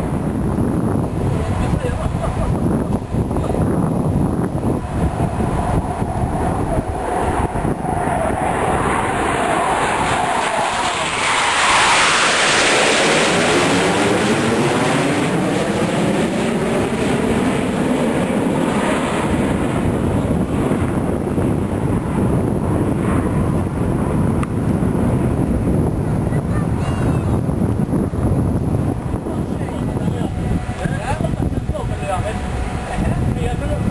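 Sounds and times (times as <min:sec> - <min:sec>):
jet fighters roaring past: 0:00.0 - 0:33.9.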